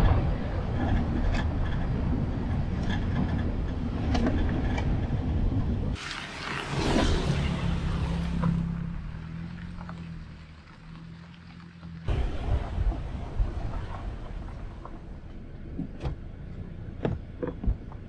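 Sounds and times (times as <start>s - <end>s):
car driving on gravel: 0.0s - 18.0s.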